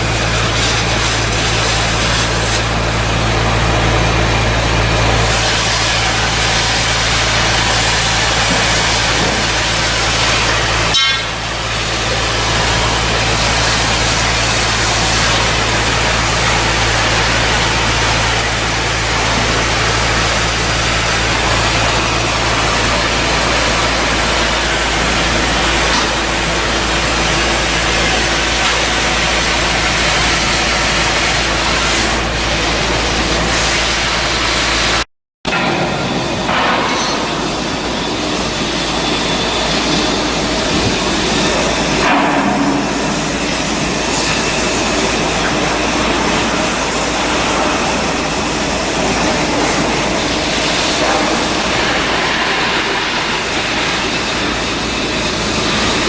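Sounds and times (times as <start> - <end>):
machinery humming: 0.0 - 56.0.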